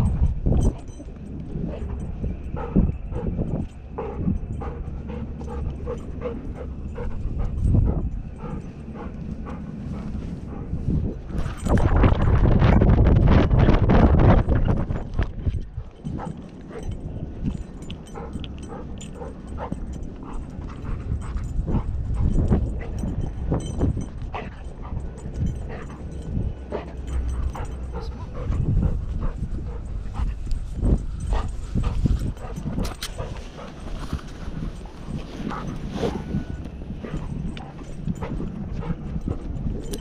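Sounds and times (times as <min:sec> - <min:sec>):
dog breathing hard: 0:00.0 - 0:12.1, 0:14.0 - 0:40.0
paws and harness thudding: 0:00.0 - 0:40.0.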